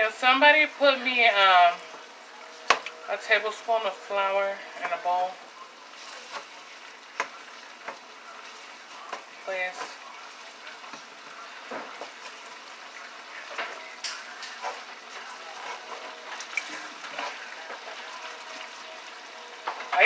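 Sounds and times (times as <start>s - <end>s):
fish sizzling in a pan: 0.0s - 20.0s.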